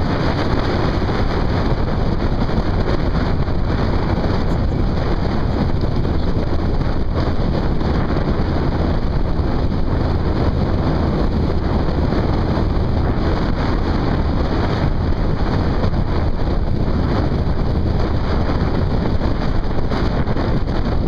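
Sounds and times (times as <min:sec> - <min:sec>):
motorcycle engine rumble: 0:00.0 - 0:21.0
wind rushing on microphone: 0:00.0 - 0:21.0.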